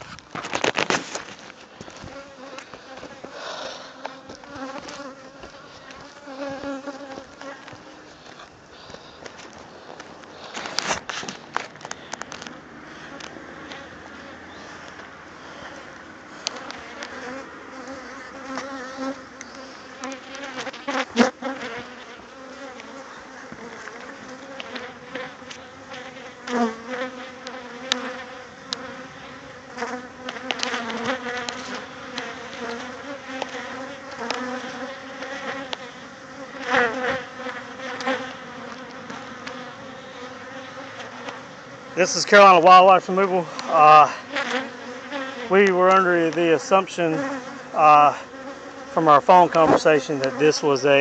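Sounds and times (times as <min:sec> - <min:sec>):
bee flying past: 0:00.0 - 0:51.0
bees buzzing in a hive: 0:00.0 - 0:51.0.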